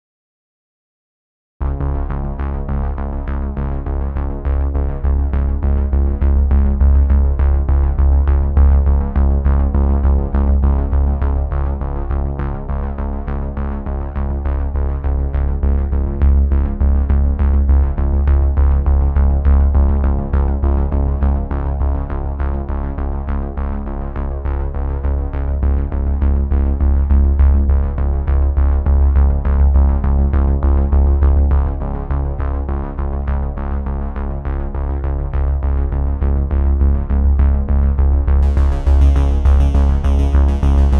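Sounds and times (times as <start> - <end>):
background music with steady beat: 1.6 - 40.9.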